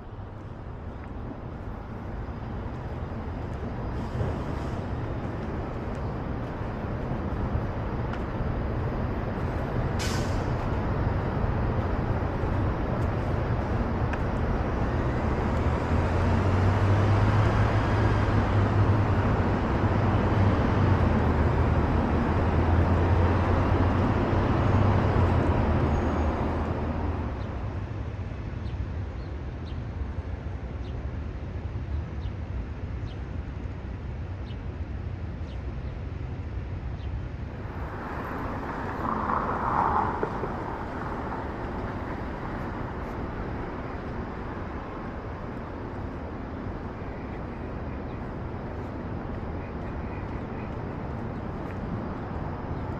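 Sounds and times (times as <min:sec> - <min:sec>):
large vehicle engine droning: 0:00.0 - 0:28.3, 0:37.2 - 0:52.9
street noise: 0:00.0 - 0:52.9.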